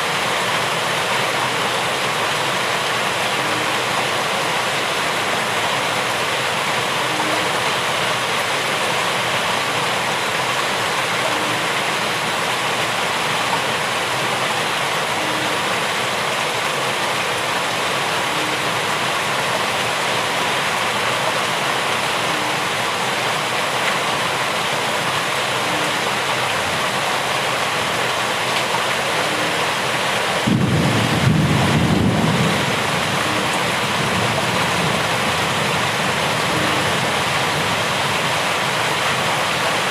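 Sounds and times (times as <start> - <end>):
heavy rainfall hiss: 0.0 - 39.9.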